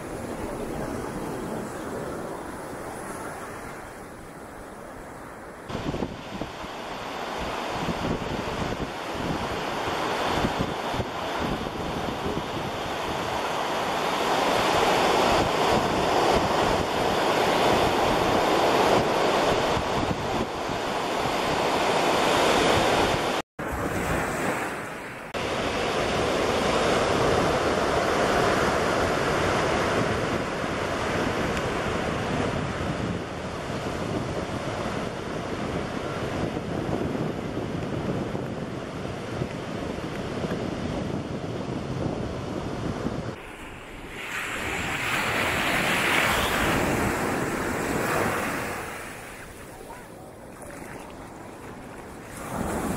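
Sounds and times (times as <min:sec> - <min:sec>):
surf washing onto beach: 0:00.0 - 0:38.4, 0:42.7 - 0:52.9
wind rumbling on microphone: 0:00.0 - 0:52.9.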